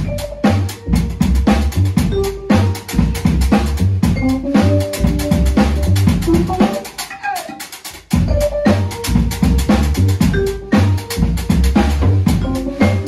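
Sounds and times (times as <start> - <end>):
deep pulsing keyboard bass: 0.0 - 6.9, 8.2 - 13.0
vibraphone played with mallets: 0.0 - 7.4, 8.2 - 13.0
driving drum beat: 0.0 - 13.0.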